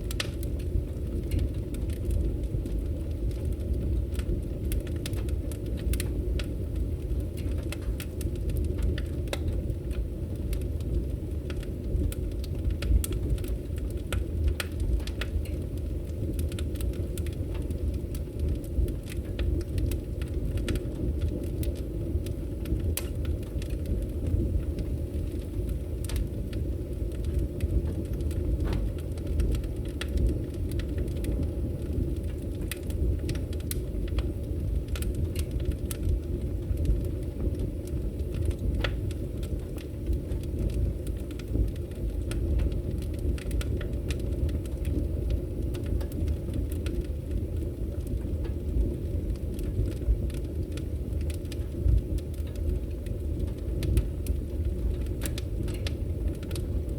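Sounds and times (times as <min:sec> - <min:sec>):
burning wood crackling and popping: 0:00.0 - 0:56.9
roar of fire flames: 0:00.0 - 0:56.9.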